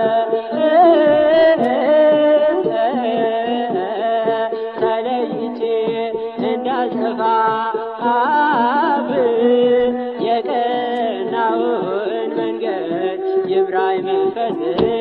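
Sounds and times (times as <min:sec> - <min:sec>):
man singing a hymn: 0:00.0 - 0:15.0.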